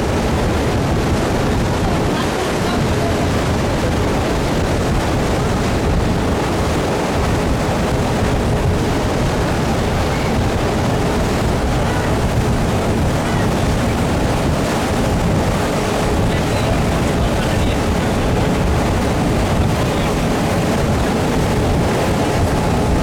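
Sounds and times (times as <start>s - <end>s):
boat engine: 0.0s - 23.0s
water: 0.0s - 23.0s
wind on microphone: 0.0s - 23.0s.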